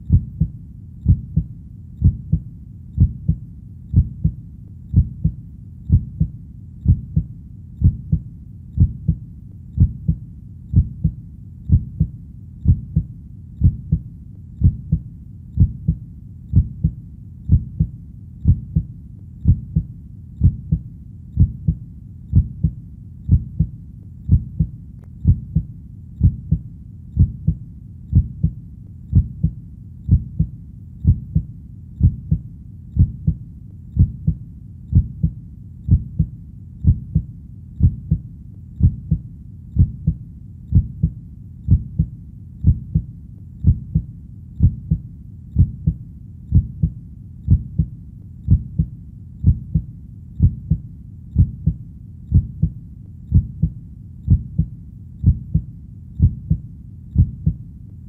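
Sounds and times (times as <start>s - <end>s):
heartbeat thumps: 0.0s - 57.6s
low continuous hum: 0.0s - 58.0s.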